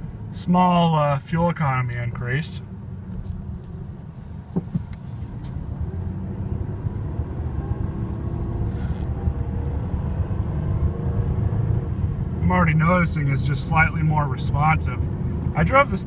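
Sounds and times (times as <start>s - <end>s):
road noise: 0.0s - 16.0s
pickup engine accelerating: 2.7s - 16.0s.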